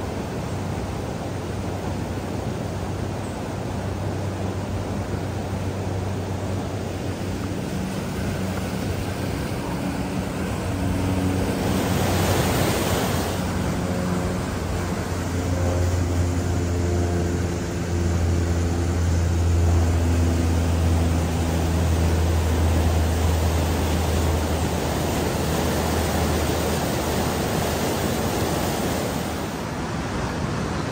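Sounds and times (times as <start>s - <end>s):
stream water and wind: 0.0s - 30.9s.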